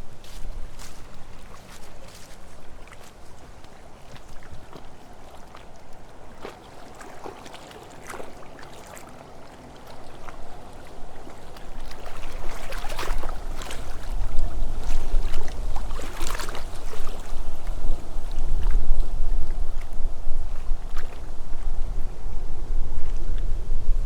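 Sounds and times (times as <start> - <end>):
wind rumble on microphone: 0.0 - 7.4, 9.2 - 24.0.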